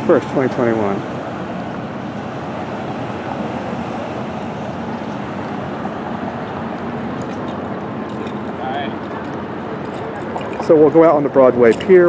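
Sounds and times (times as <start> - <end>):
street traffic: 0.0 - 12.0
wind: 0.0 - 12.0.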